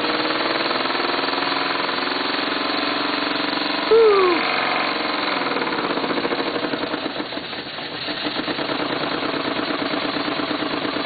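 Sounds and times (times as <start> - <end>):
steam engine chuffing: 0.0 - 11.0.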